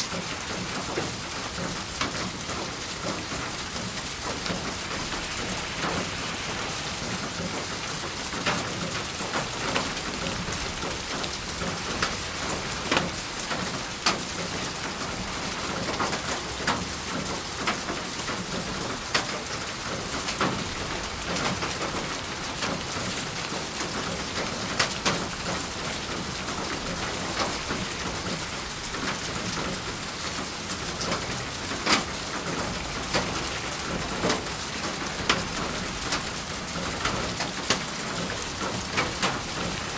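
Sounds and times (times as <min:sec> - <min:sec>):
raindrops tapping: 0:00.0 - 0:39.9
steady rain falling: 0:00.0 - 0:39.9.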